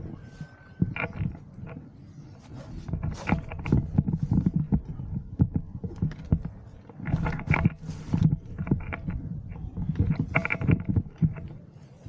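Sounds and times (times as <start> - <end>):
gear knocks and rustles: 0.0 - 12.0.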